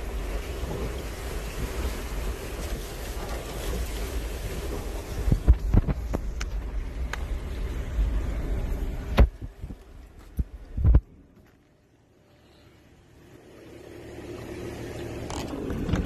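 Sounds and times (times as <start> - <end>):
vehicle rumbling over rough ground: 0.0 - 16.0.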